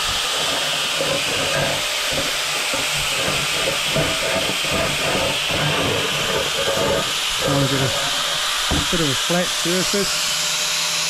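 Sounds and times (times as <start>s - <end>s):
angle grinder cutting tile: 0.0s - 11.0s.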